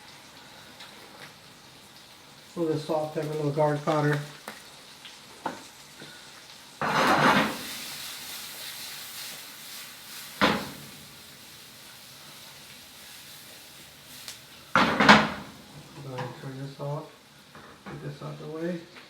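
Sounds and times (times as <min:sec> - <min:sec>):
pan sizzling: 0:00.0 - 0:19.0.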